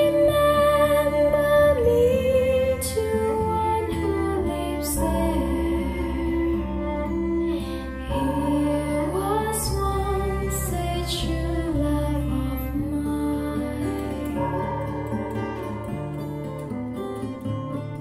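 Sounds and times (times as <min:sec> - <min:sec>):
woman singing: 0:00.0 - 0:14.6
deep bass notes: 0:00.0 - 0:18.0.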